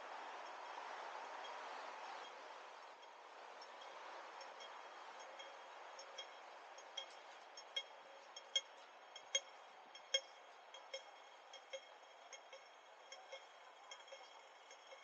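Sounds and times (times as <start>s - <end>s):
faint street noise: 0.0s - 15.0s
crossing signal ticking: 2.2s - 15.0s.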